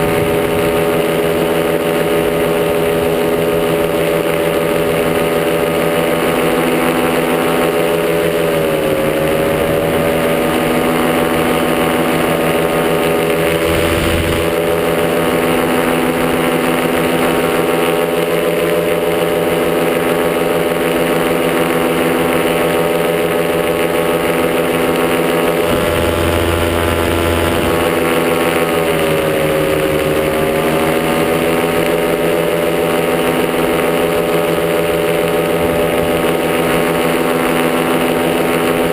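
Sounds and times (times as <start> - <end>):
wind rumbling on microphone: 0.0 - 18.6, 21.4 - 38.9
two-stroke engine running: 0.0 - 38.9.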